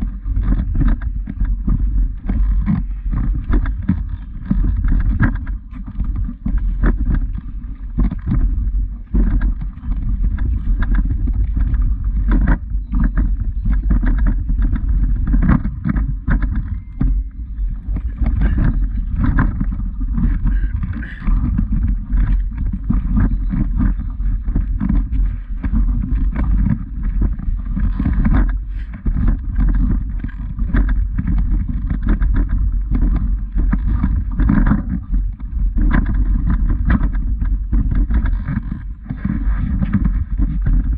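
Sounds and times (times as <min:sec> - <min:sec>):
low rumbling on microphone: 0:00.0 - 0:40.9
footsteps on loose stones: 0:00.6 - 0:40.8.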